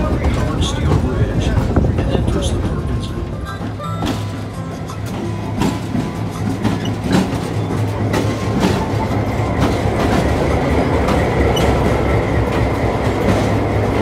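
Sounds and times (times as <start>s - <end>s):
diesel locomotive engine humming: 0.0s - 14.0s
train wheels clicking over rail joints: 0.0s - 14.0s.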